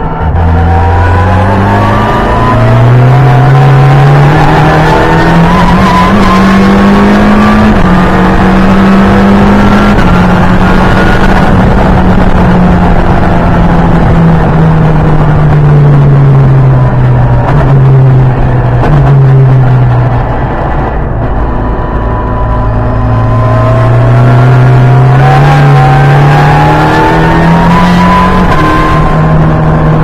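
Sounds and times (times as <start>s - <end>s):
car engine revving: 0.0s - 30.0s
thin rising whine: 0.0s - 30.0s.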